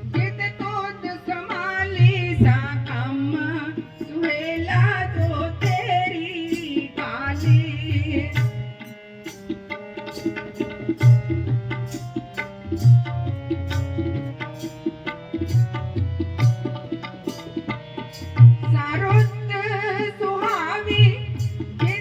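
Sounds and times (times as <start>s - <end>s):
tabla drumming: 0.0s - 22.0s.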